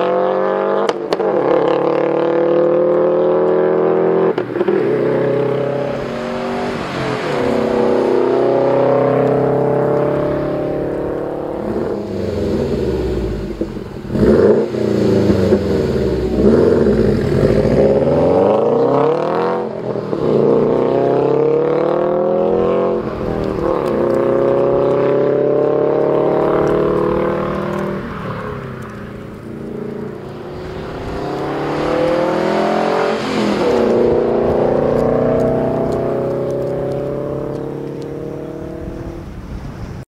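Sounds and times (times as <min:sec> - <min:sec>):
car engine accelerating through gears: 0:00.0 - 0:39.3.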